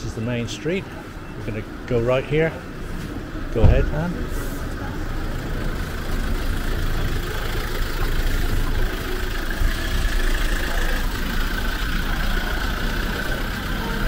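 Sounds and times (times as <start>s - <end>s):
low vehicle engine rumble: 0.0s - 14.0s.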